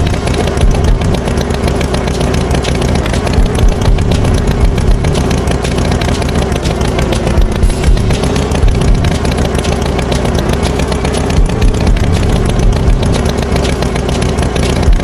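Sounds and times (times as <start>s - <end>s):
rapid rattle: 0.0s - 15.0s
tractor engine running: 0.0s - 15.0s.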